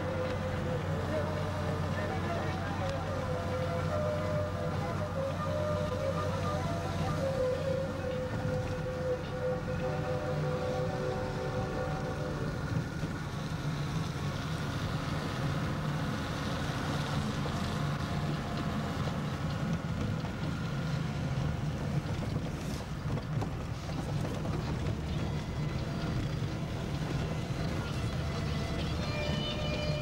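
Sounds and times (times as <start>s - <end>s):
vehicle engine and tyre drone: 0.0s - 30.0s.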